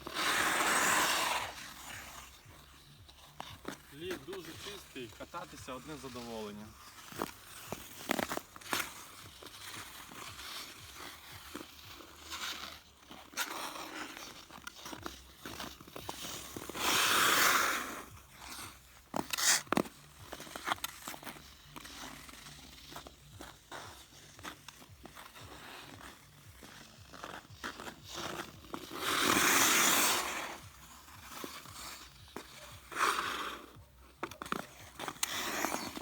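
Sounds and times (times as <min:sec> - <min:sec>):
ice skate blades scraping ice: 0:00.0 - 0:36.0.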